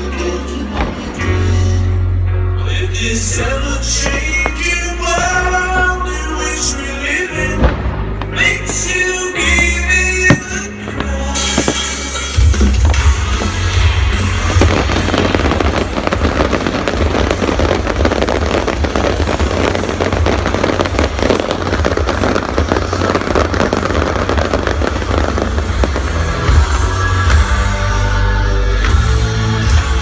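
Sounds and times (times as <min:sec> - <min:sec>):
loud music with heavy bass: 0:00.0 - 0:30.0
fireworks crackling and popping: 0:03.4 - 0:27.8.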